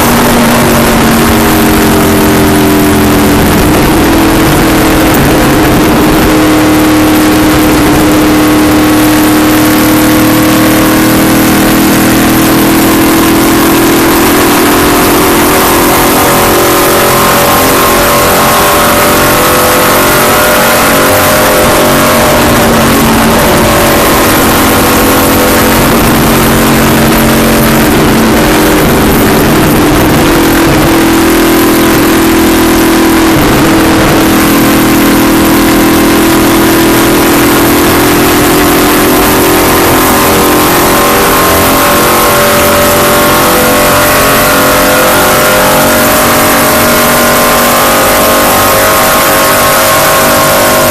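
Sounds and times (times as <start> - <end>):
race car engine running hard: 0.0 - 50.9
rushing wind and road noise: 0.0 - 50.9.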